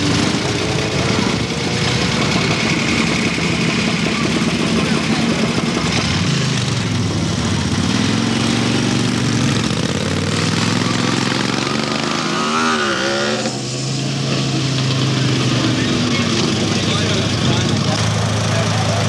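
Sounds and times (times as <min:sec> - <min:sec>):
motorcycle engines idling: 0:00.0 - 0:12.6, 0:13.4 - 0:19.0
motorcycle revving: 0:00.0 - 0:19.0.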